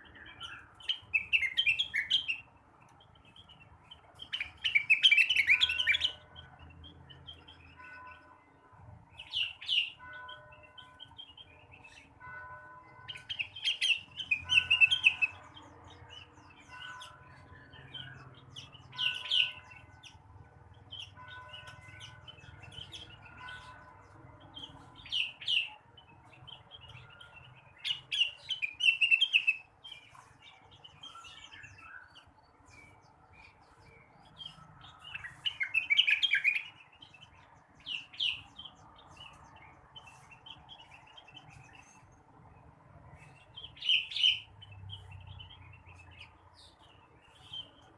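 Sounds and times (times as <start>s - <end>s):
bird singing chirping phrases: 0.0s - 47.9s.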